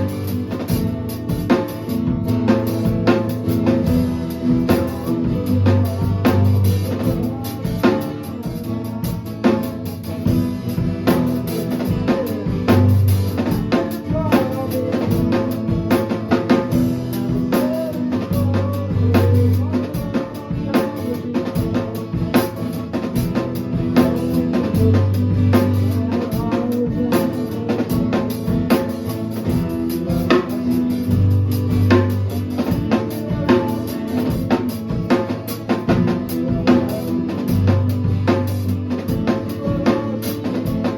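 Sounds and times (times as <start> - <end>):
band jamming live: 0.0 - 40.9
drum kit beat: 0.0 - 40.9.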